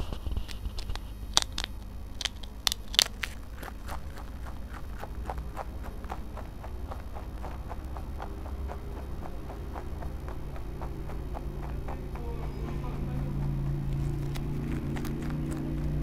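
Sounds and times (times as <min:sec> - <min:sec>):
rabbit crunching chip: 0:00.0 - 0:16.0.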